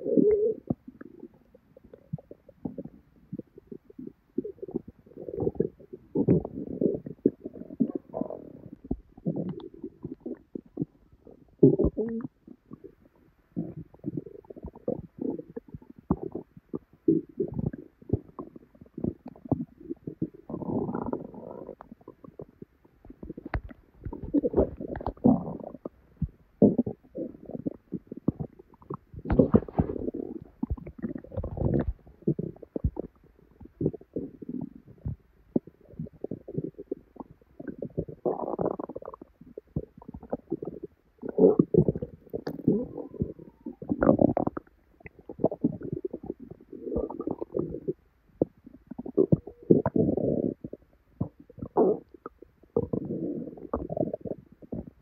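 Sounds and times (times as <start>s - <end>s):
stomach gurgling and popping: 0.0s - 55.0s.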